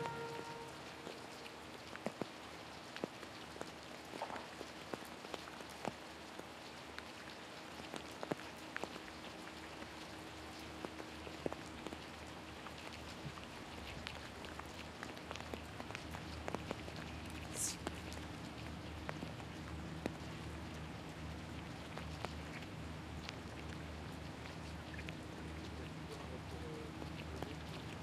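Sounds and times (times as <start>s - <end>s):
light rain patter: 0.0s - 28.0s.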